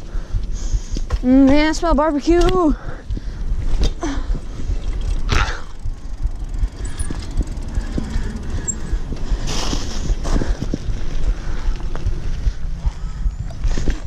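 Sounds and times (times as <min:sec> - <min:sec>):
low rumble: 0:00.0 - 0:14.0
wind buffeting microphone: 0:00.0 - 0:14.0
bike rattling and knocking: 0:00.1 - 0:14.0.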